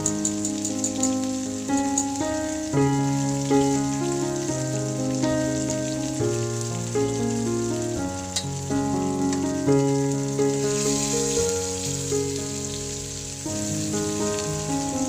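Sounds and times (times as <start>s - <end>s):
fish sizzling in hot oil: 0.0s - 15.0s
instrumental background music: 0.0s - 15.0s.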